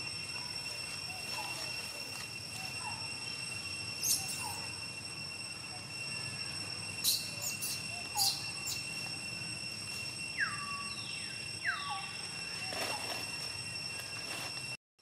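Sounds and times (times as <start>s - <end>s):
insects droning: 0.0s - 14.8s.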